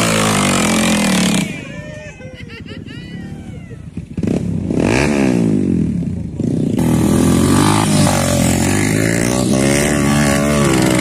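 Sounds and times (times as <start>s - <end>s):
dirt bike engine revving: 0.0s - 1.7s, 3.4s - 11.0s
dirt bike at high revs: 0.0s - 1.8s, 3.9s - 11.0s.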